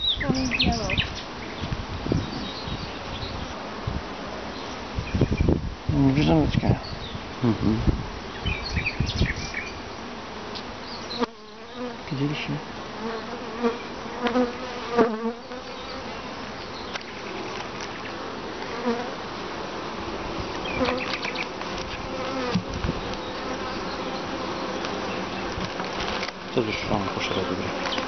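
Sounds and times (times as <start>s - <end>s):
bees buzzing: 0.0s - 28.0s.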